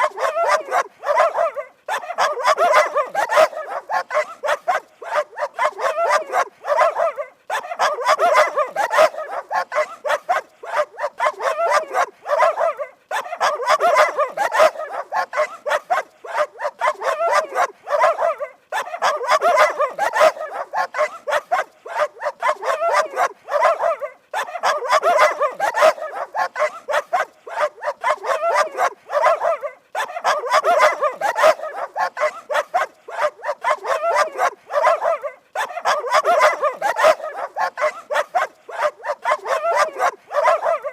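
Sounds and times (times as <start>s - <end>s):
dog barking rapidly: 0.0s - 40.9s.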